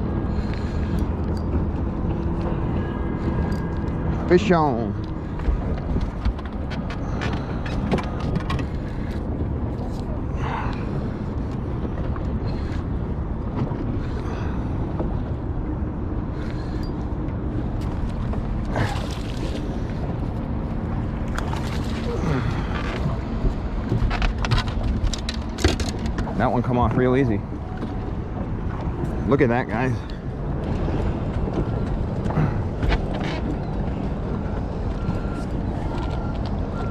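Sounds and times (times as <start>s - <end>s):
water against boat: 0.0s - 36.9s
wind buffeting microphone: 0.0s - 36.9s.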